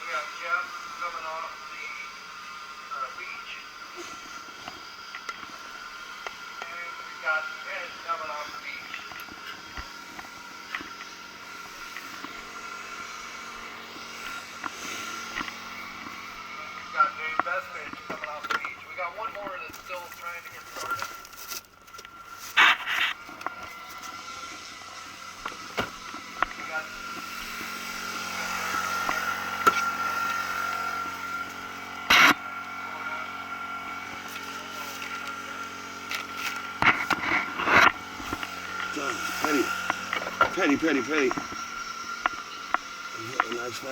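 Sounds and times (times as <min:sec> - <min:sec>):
model boat engines whining: 0:00.0 - 0:43.9.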